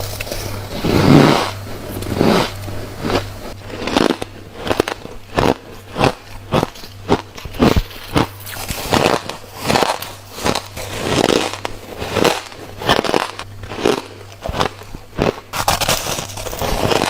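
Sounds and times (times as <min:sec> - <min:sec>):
crunchy chewing of frost: 0:00.0 - 0:17.0.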